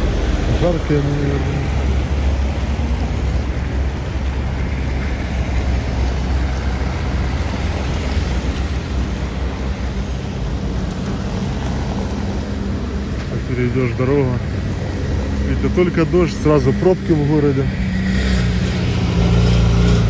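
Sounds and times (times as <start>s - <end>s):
traffic rumble: 0.0s - 20.0s
tyres hissing on wet road: 0.0s - 20.0s.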